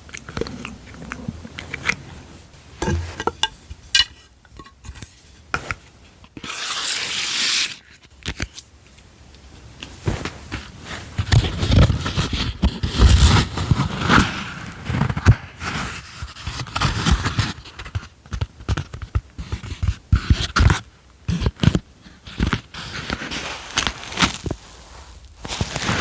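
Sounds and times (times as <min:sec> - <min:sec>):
scratching and rustling: 0:00.0 - 0:05.8, 0:09.8 - 0:26.0.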